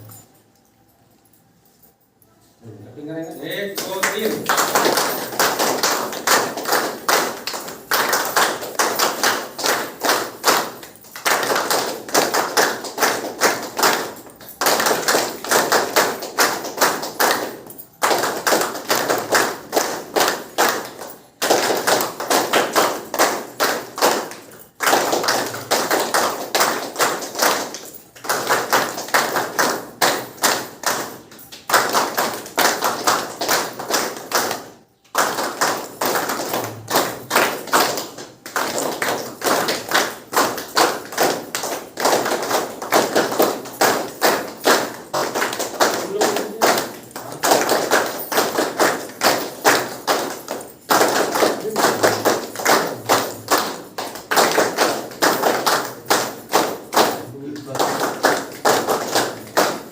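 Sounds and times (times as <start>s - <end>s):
group clapping rapidly: 3.3s - 59.9s.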